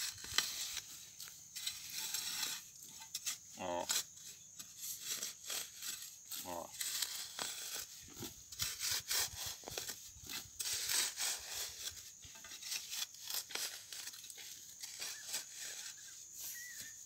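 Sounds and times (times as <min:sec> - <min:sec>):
metal bar scraping into dry soil: 0:00.0 - 0:17.0.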